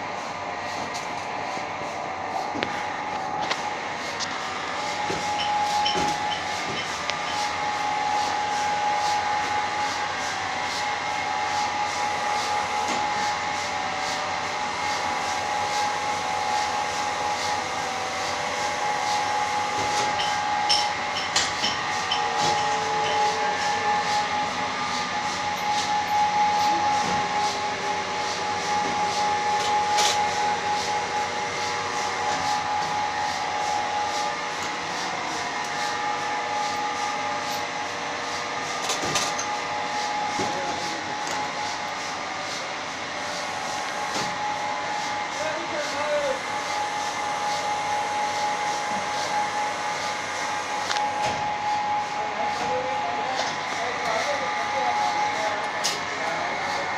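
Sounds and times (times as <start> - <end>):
hydraulic machine hum and whine: 0.0 - 56.9.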